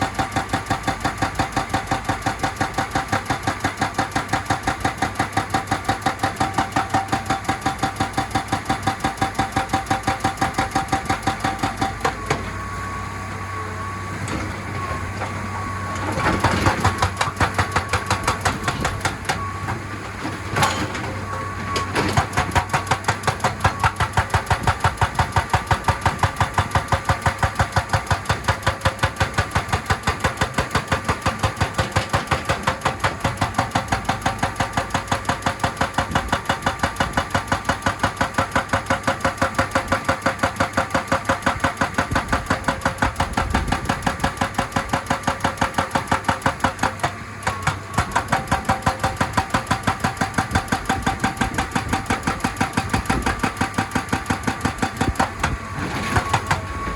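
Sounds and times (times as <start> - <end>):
hydraulic rock breaker hammering: 0.0 - 12.7, 14.2 - 56.9.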